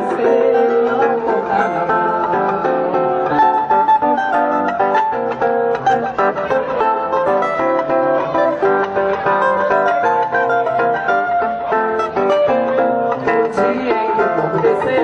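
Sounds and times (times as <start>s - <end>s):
acoustic guitar samba: 0.0s - 15.0s.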